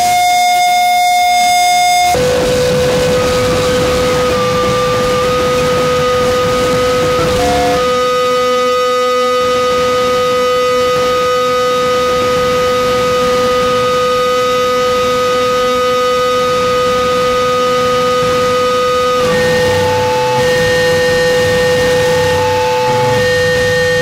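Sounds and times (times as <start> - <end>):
noise rock drone of high tones: 0.0 - 24.0.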